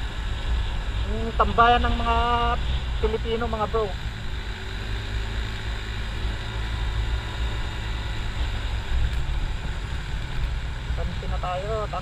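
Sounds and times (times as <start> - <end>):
scooter engine drone: 0.0 - 12.0.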